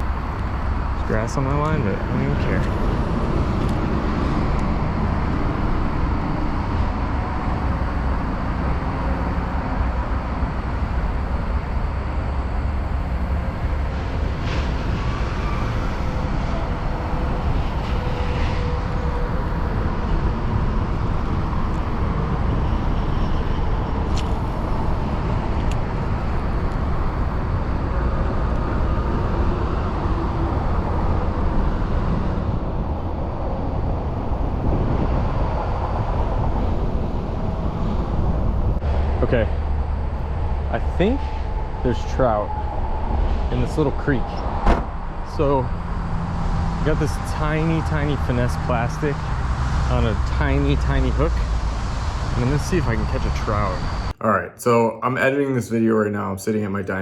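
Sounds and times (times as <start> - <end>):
outdoor rumbling noise: 0.0 - 54.6.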